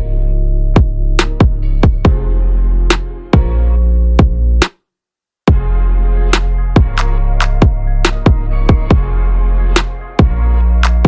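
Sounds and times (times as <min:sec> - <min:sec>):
electronic music with drum beat: 0:00.0 - 0:04.6, 0:05.5 - 0:11.0.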